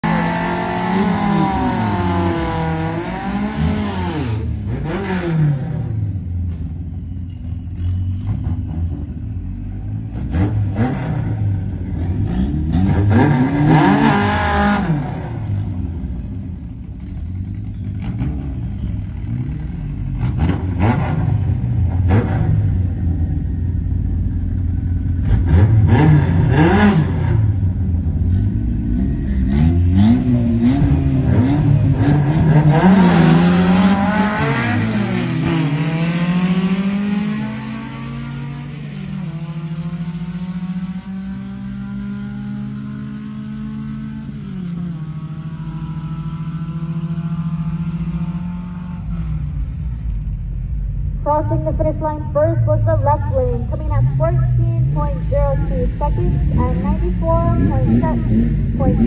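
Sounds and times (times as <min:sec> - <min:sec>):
pickup engines idling and revving: 0:00.0 - 0:59.0.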